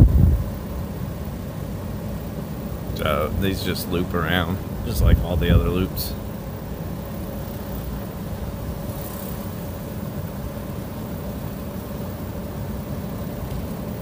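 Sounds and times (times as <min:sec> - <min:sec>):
golf cart running: 0:00.0 - 0:14.0.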